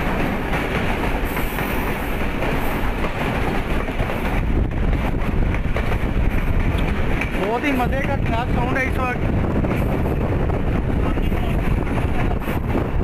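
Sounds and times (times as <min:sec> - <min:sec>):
train wheels rattling over rails: 0:00.0 - 0:13.0.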